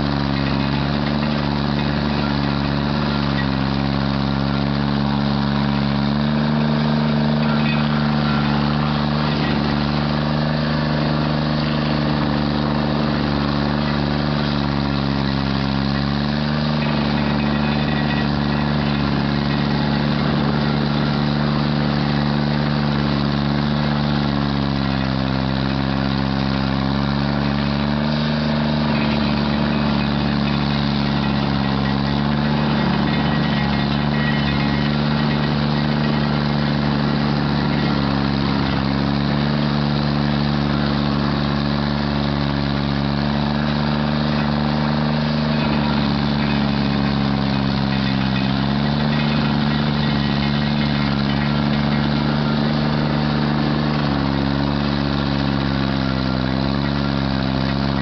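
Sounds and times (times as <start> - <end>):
stump grinder engine running: 0.0 - 58.0.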